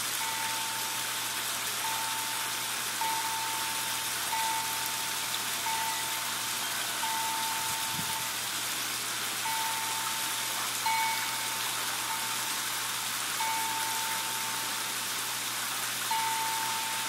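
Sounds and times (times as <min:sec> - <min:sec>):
thin steady tone: 0:00.0 - 0:08.5, 0:09.4 - 0:15.3, 0:16.0 - 0:17.0
waterfall splashing over rocks: 0:00.0 - 0:17.0.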